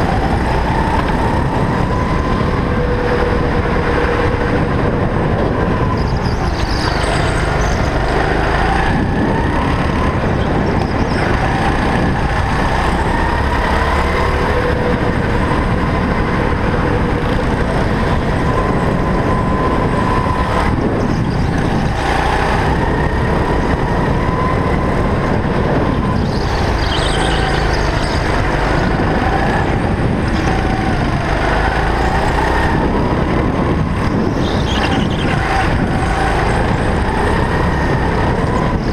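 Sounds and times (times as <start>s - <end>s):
go-kart engine: 0.0s - 38.9s.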